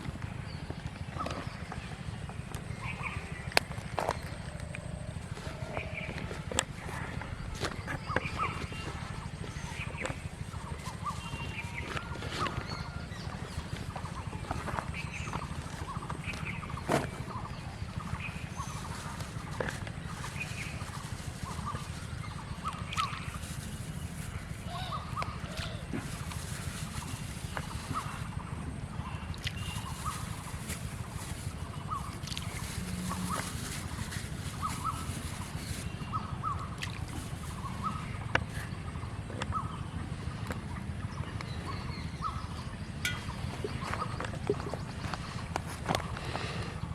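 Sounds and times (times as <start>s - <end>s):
birds chirping: 0.0s - 46.9s
steady low rumble: 0.0s - 46.9s.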